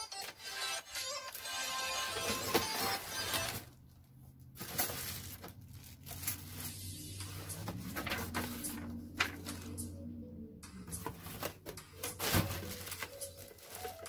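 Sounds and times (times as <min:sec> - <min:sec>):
faint background music: 0:00.0 - 0:14.0
cardboard and plastic rustling: 0:01.1 - 0:09.8, 0:11.0 - 0:14.0.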